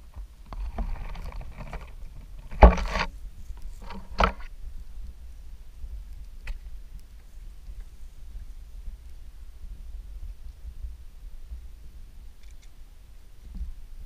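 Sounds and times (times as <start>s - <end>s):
close rustling on camera: 0.0s - 11.7s.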